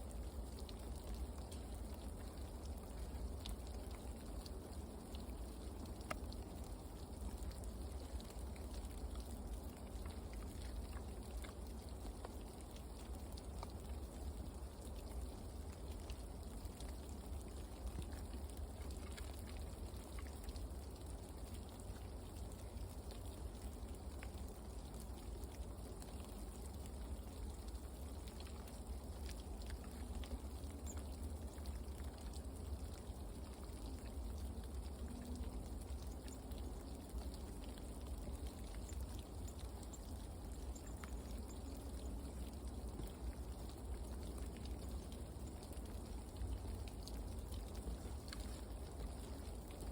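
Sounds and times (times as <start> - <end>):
rain falling: 0.0 - 49.9
ticks of raindrops: 0.0 - 49.9.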